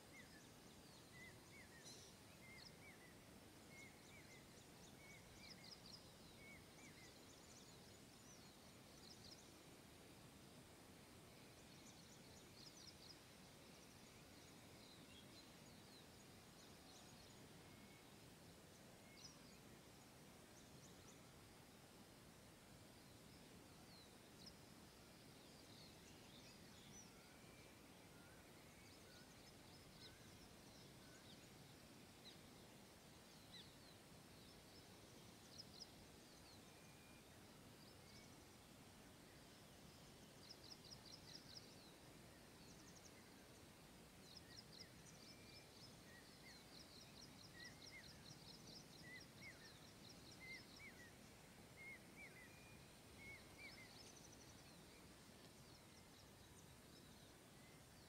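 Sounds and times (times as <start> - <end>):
small birds chirping and trilling: 0.0 - 21.8, 22.5 - 58.0
lower bird chirps: 0.0 - 58.0
steady outdoor hiss: 0.0 - 58.0.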